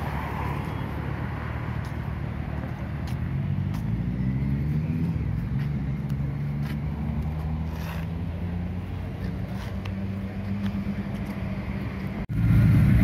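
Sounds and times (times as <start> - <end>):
vehicle engine running: 2.3 - 13.0.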